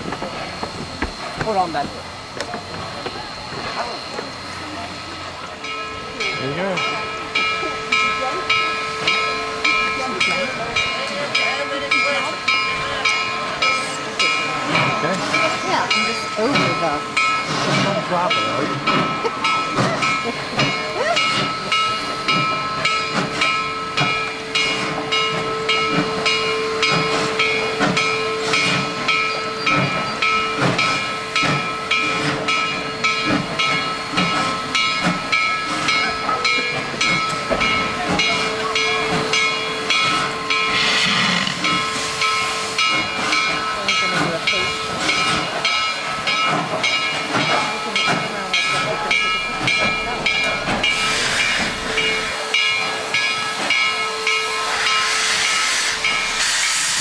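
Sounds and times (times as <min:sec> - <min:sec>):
steam hissing: 0:00.0 - 0:57.0
steam locomotive chugging beat: 0:00.0 - 0:57.0.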